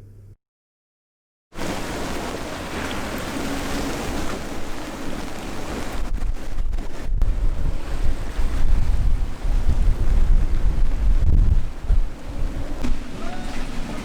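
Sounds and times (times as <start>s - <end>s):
strong wind buffeting microphone: 1.6s - 14.0s.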